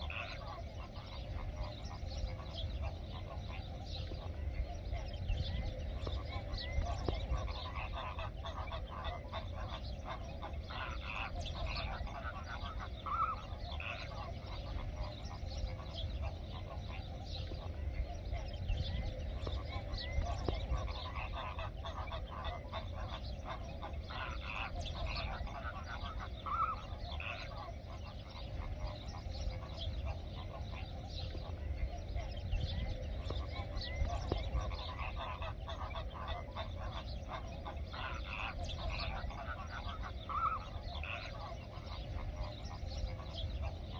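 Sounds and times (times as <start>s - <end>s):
flamingo flock honking: 0.0s - 43.9s.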